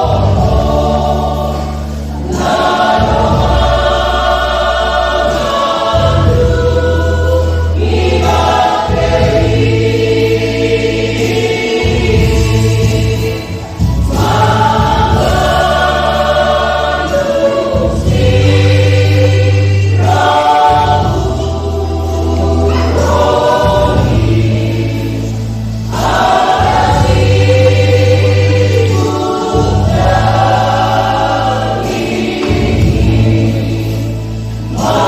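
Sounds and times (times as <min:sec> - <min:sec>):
choir singing a hymn: 0:00.0 - 0:35.0
low bass notes: 0:00.0 - 0:35.0.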